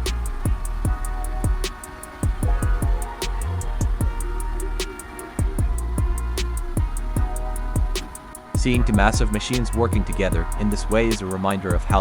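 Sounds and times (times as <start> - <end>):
kick drum beat: 0.0 - 10.7, 11.7 - 12.0
guitar: 0.0 - 12.0
hi-hat ticks: 0.0 - 12.0.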